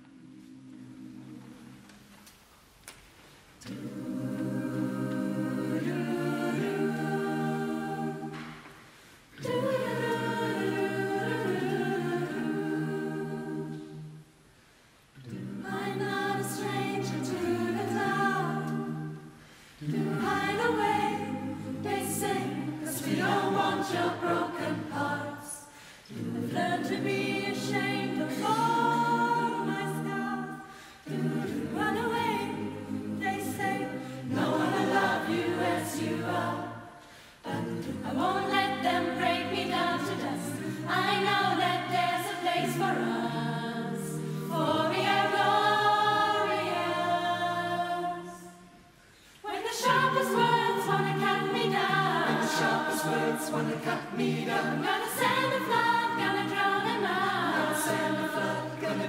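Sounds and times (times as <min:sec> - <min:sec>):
choir singing: 0:00.0 - 0:02.2, 0:03.6 - 0:14.4, 0:15.2 - 0:59.0.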